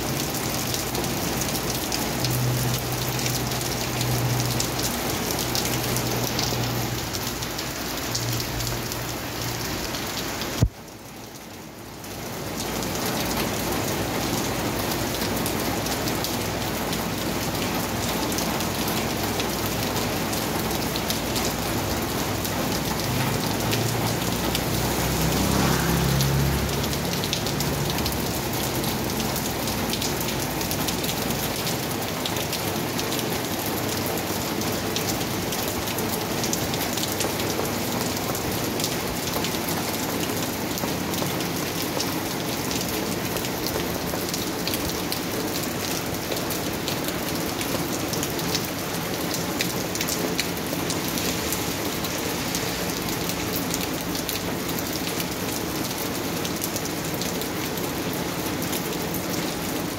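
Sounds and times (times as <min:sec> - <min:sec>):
heavy rain on wet street: 0:00.0 - 0:59.9.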